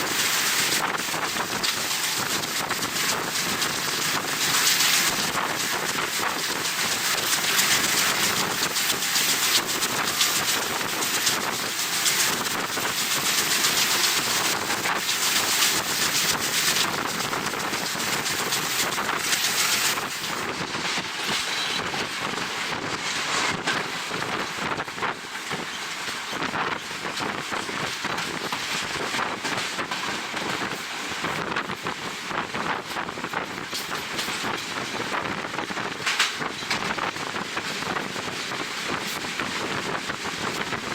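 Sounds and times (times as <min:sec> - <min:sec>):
train wheels clattering on rails: 0:00.0 - 0:40.9
wind buffeting microphone: 0:00.0 - 0:40.9.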